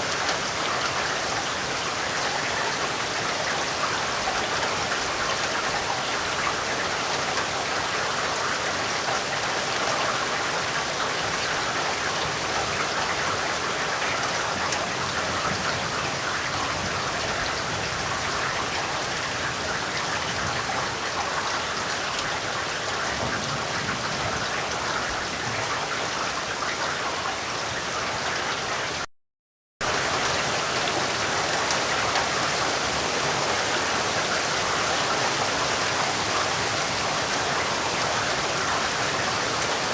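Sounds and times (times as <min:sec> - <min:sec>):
steady rain falling: 0:00.0 - 0:29.1, 0:29.8 - 0:39.9.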